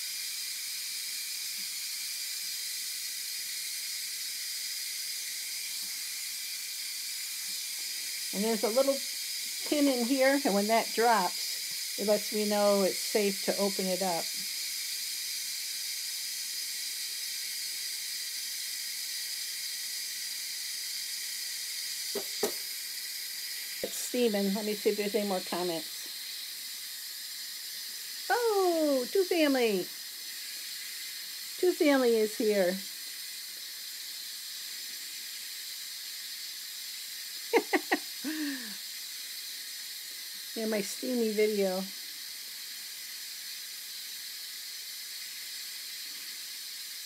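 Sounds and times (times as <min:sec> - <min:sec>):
steam hissing from pressure cooker valve: 0:00.0 - 0:47.0.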